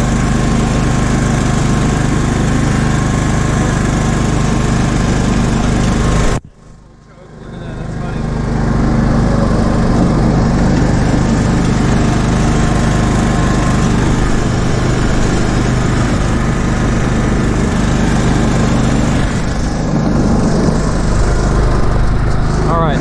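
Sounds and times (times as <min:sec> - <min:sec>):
riding mower engine humming: 0:00.0 - 0:23.0.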